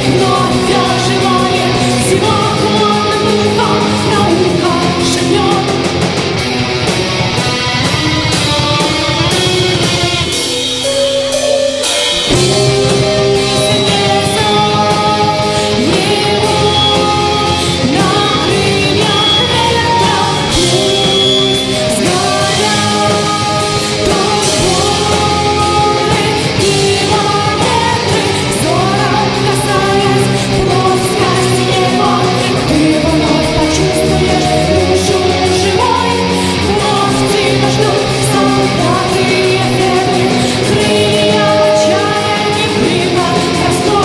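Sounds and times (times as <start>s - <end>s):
driving drums: 0.0s - 44.0s
electric guitar: 0.0s - 44.0s.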